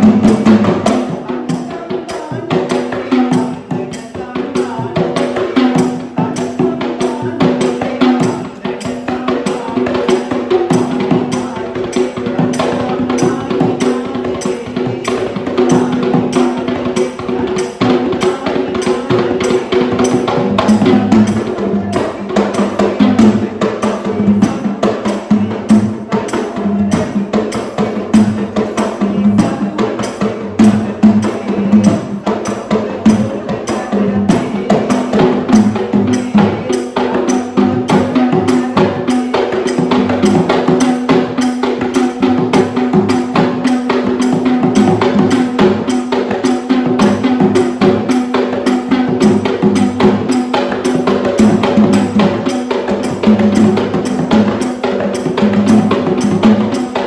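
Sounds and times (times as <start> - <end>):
frame drums fast rhythm: 0.0 - 57.0.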